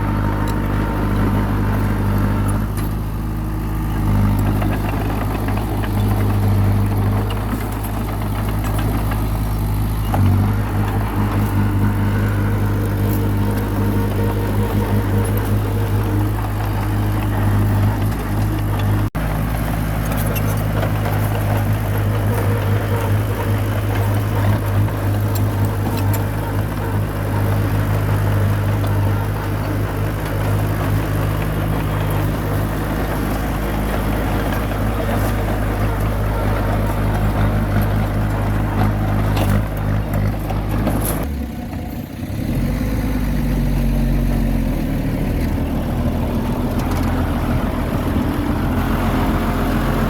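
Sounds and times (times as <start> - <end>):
bulldozer diesel engine running: 0.0 - 50.0
faint clicks and clatter: 0.4 - 41.3.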